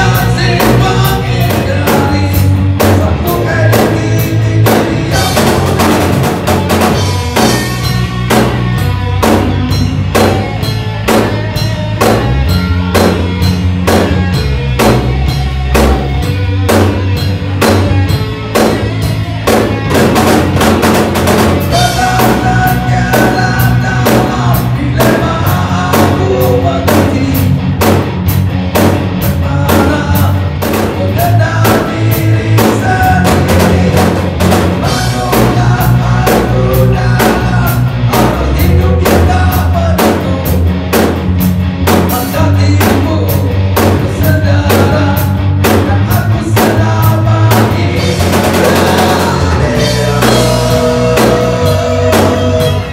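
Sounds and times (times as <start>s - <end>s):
bass guitar: 0.0s - 52.9s
drum kit beat: 0.0s - 52.9s
electric guitar: 0.0s - 52.9s.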